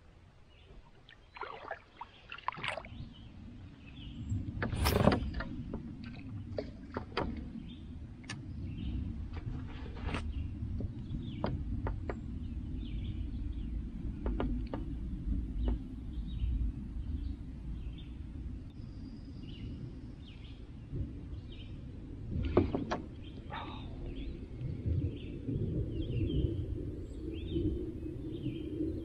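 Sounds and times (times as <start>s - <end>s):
low steady rumble: 0.0s - 29.0s
small birds chirping: 0.5s - 5.6s, 7.4s - 29.0s.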